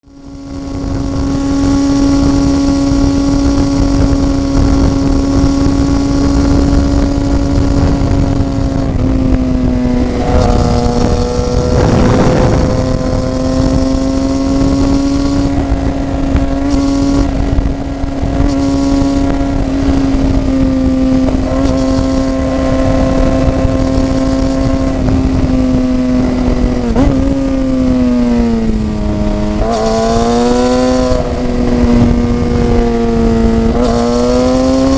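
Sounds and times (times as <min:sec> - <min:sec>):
constant rushing noise: 0:00.0 - 0:34.9
motorcycle engine cruising: 0:00.0 - 0:34.9.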